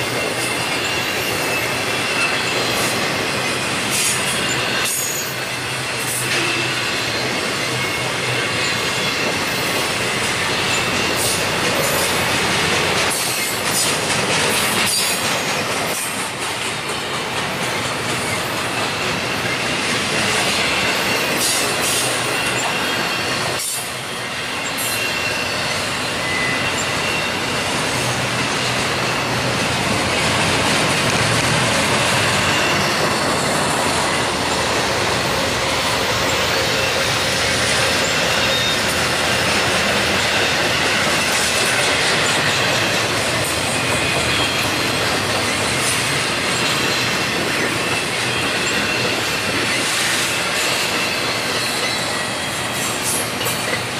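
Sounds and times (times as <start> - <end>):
high wheel squeal: 0.0 - 16.2, 17.7 - 53.9
train knocks: 0.0 - 53.9
train wheels rumbling on rails: 0.0 - 53.9.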